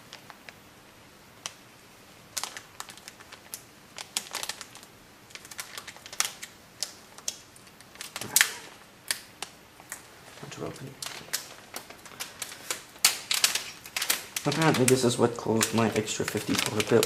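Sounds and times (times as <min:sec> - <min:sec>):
plastic bag crinkling: 0:02.3 - 0:17.0.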